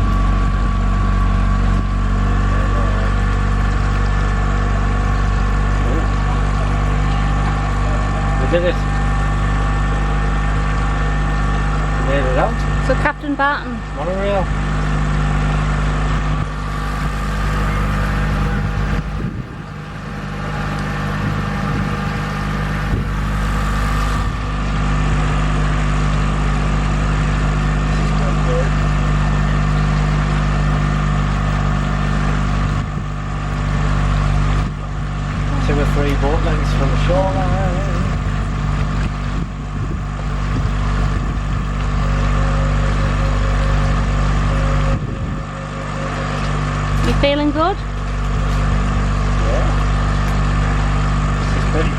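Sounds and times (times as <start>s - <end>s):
motorboat engine running: 0.0s - 51.9s.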